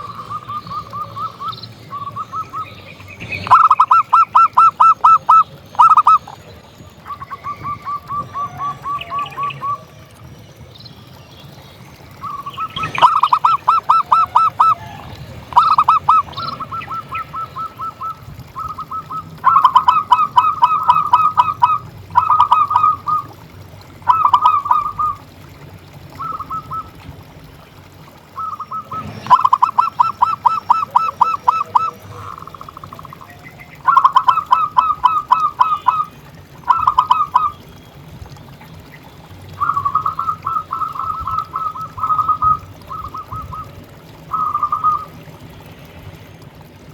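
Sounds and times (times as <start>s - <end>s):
doves calling staccato notes: 0.0s - 9.9s, 11.5s - 46.2s.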